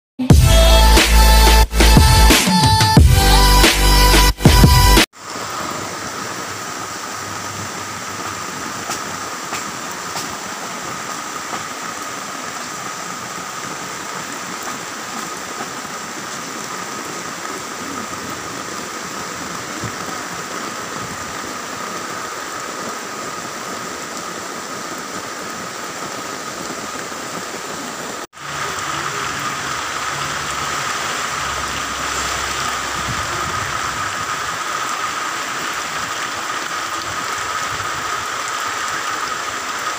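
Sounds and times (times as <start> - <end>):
steady rain falling: 0.3 - 39.9.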